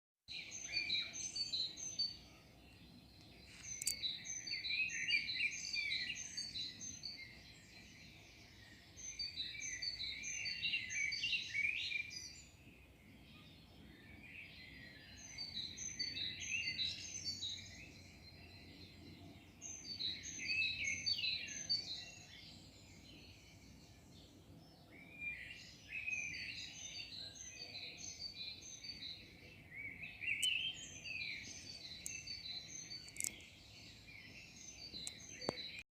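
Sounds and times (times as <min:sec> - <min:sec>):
songbird chirping: 0:00.3 - 0:35.9.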